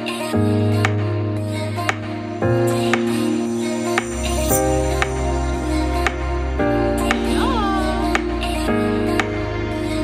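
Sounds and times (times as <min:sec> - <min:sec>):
held chords over light beat: 0:00.0 - 0:10.0.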